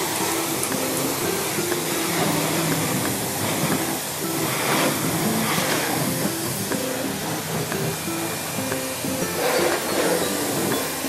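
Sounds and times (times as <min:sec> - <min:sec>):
pressure washer spray hissing on car: 0:00.0 - 0:11.0.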